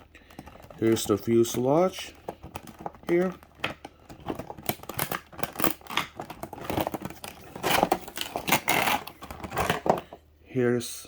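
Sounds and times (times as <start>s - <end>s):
packaging rustling and crinkling: 0.0s - 10.2s.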